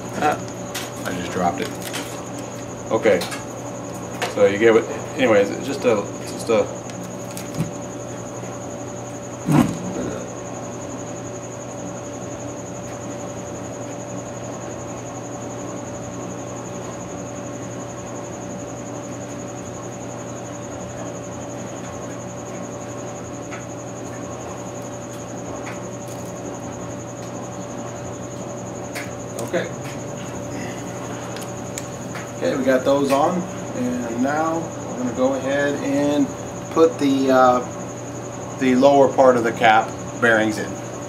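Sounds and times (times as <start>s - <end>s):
steady tonal hum: 0.0s - 18.8s, 19.8s - 41.0s.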